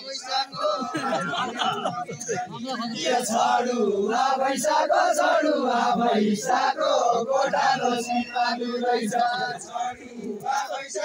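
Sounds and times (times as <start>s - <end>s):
men singing in chanting style: 0.0s - 11.0s.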